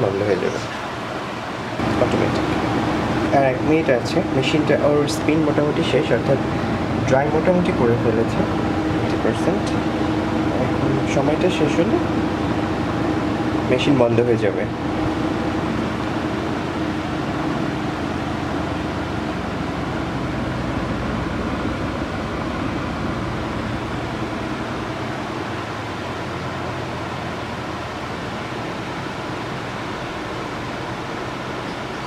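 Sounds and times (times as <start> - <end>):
washing machine drum spinning: 0.0 - 32.0.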